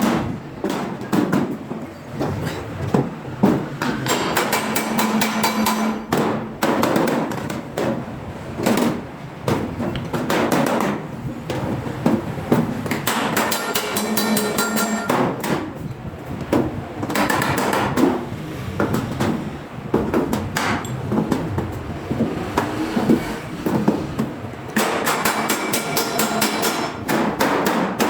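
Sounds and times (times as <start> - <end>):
hammer blows on sheet steel: 2.3 - 28.0.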